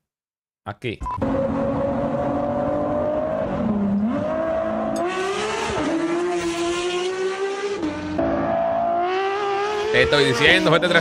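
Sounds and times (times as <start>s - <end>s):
sports car accelerating hard: 1.2s - 11.0s.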